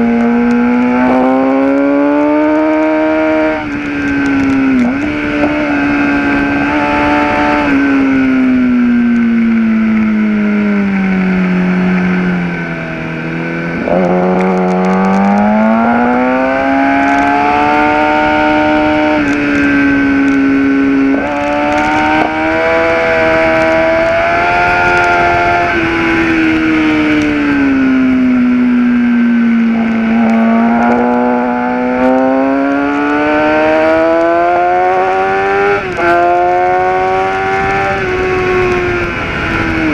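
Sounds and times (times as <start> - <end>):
motorcycle engine at speed: 0.0 - 39.9
wind rush: 0.7 - 9.8, 10.7 - 39.9.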